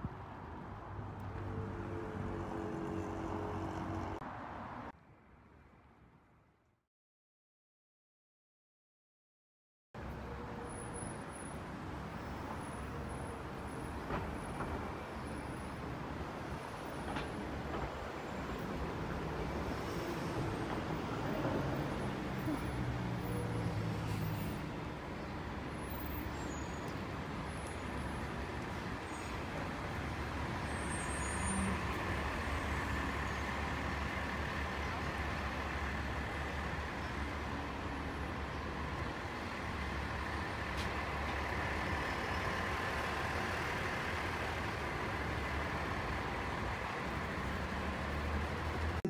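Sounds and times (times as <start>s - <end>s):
vehicle engines passing: 0.1s - 4.9s, 10.1s - 49.0s.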